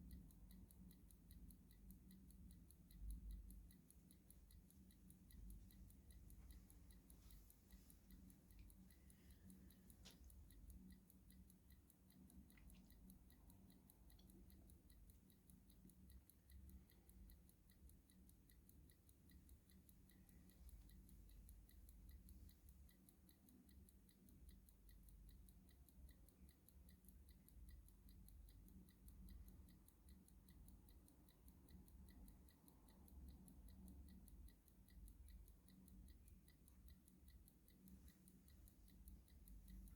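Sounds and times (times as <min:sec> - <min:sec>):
clock ticking faintly: 0:00.0 - 0:39.9.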